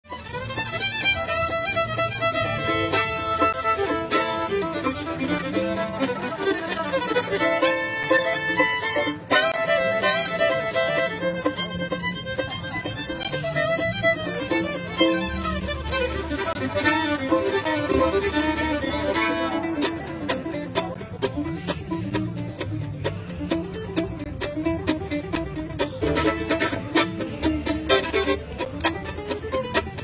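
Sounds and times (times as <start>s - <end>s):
fast bluegrass fiddle: 0.0s - 30.0s.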